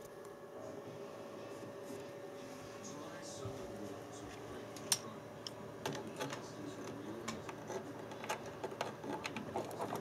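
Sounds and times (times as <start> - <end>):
desktop computer hum: 0.0 - 10.0.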